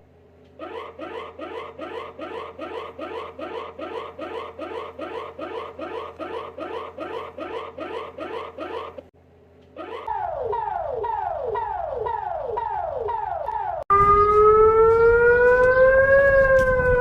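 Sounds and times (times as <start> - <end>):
rising electronic alert chirp: 0.6 - 9.0, 9.8 - 16.0.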